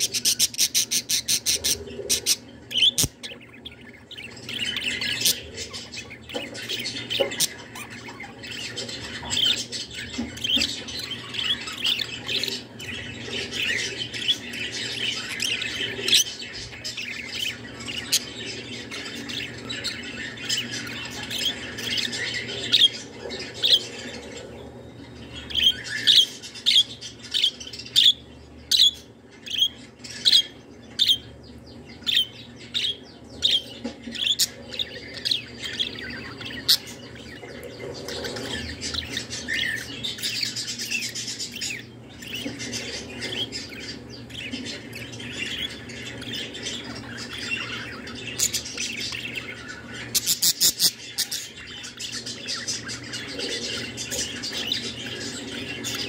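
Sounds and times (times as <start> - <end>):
budgerigar chirping and chattering: 0.0 - 24.2, 25.1 - 56.0.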